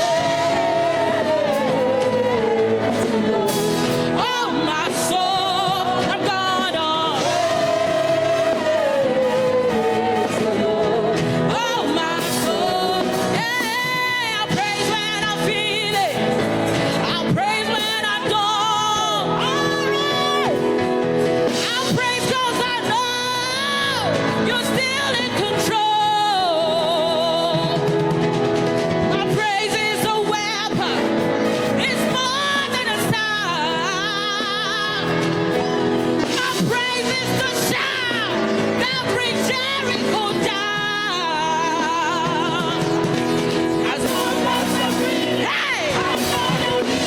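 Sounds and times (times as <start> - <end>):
band playing gospel music: 0.0 - 47.0
person singing with vibrato: 0.0 - 47.0.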